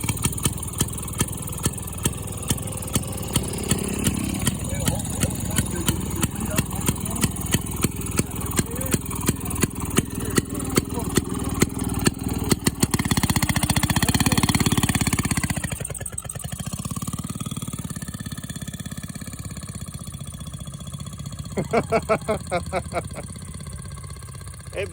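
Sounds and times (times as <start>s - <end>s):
small minibike engine chugging: 0.0s - 24.9s.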